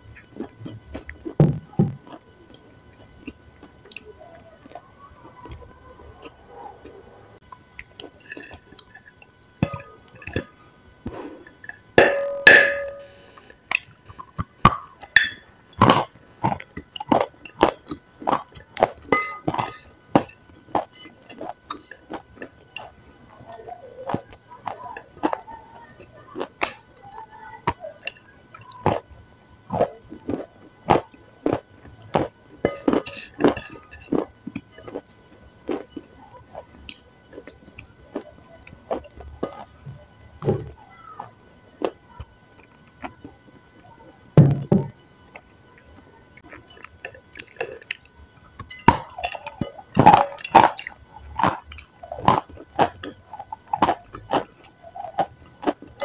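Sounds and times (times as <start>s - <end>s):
person chewing soft food: 0.0s - 43.8s, 44.8s - 56.0s.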